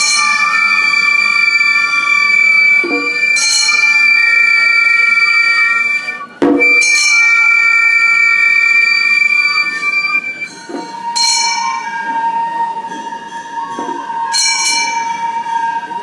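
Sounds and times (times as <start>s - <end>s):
hand gongs ringing: 0.0s - 16.0s
held flute note: 0.0s - 16.0s.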